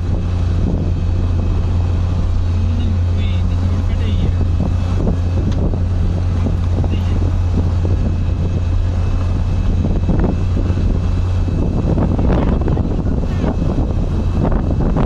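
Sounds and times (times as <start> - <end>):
low motor drone: 0.0 - 15.0
rough rushing wind: 0.0 - 15.0.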